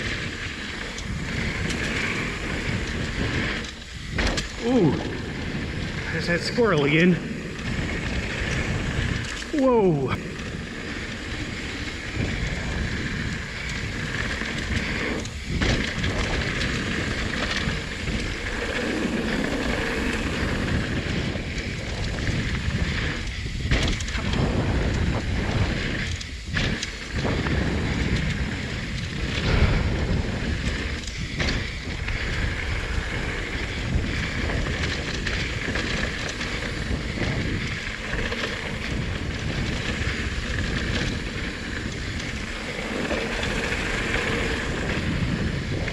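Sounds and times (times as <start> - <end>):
bike knocks and rattles: 0.0 - 45.9
tyre noise: 0.0 - 45.9
wind over microphone: 0.0 - 45.9.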